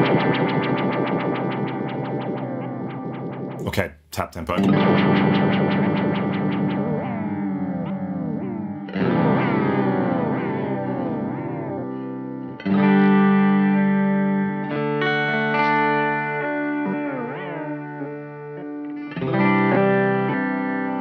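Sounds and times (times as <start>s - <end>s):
electric guitar chords with delay: 0.0s - 3.6s, 4.6s - 21.0s.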